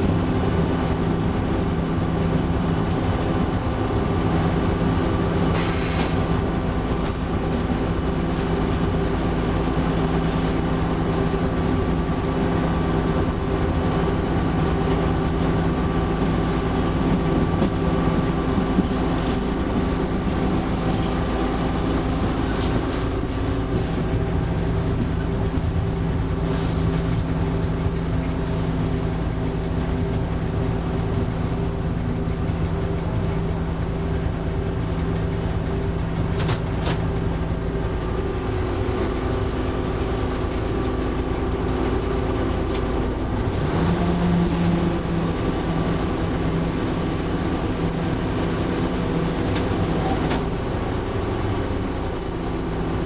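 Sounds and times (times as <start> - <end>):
diesel locomotive engine droning: 0.0 - 53.0.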